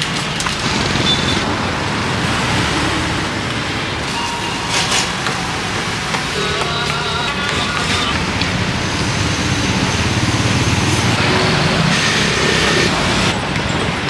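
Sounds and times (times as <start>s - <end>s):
vehicles going by: 0.0s - 14.0s.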